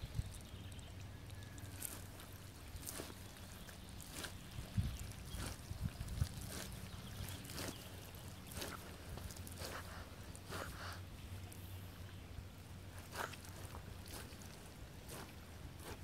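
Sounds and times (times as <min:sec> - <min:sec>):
rubber boots squelching in mud: 0:00.1 - 0:11.8, 0:12.8 - 0:16.0.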